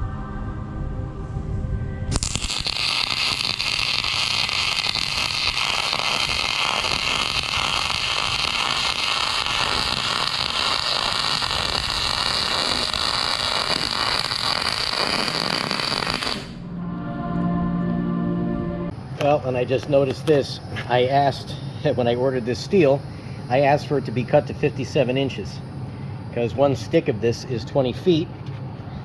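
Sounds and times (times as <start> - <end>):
welder arc crackling and hissing: 2.1 - 16.6, 18.9 - 28.2.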